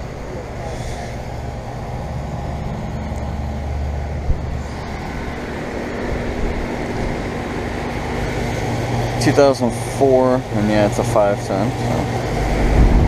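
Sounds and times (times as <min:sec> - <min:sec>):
air conditioner compressor and fan hum: 0:00.0 - 0:13.0.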